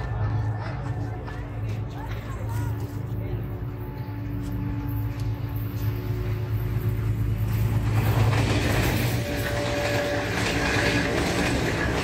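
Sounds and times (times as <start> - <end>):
diesel locomotive engine drone: 0.0 - 12.0
train wheels roaring on rails: 0.0 - 12.0.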